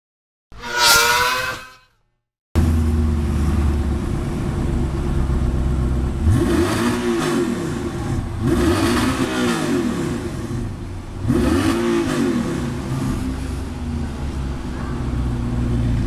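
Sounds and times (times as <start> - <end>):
car engine idling and revving: 2.6 - 16.0.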